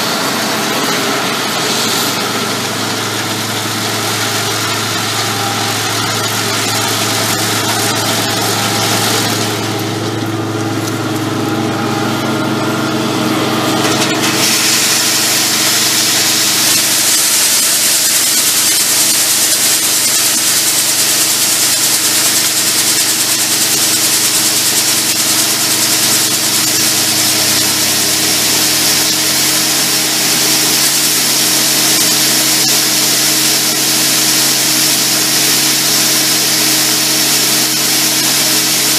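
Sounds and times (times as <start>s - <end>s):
loud mechanical rushing hiss: 0.0s - 10.8s, 13.6s - 38.9s
farm machinery engine drone: 0.0s - 38.9s.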